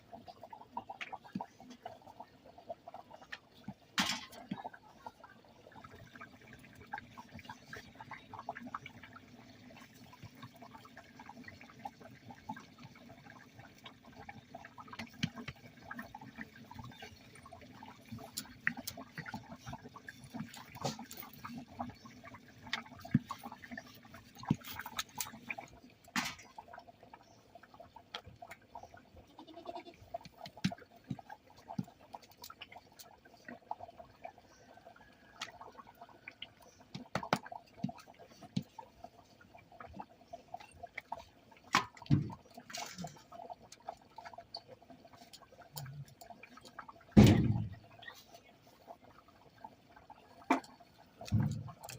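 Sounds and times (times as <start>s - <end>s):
low liquid murmur: 0.0s - 51.9s.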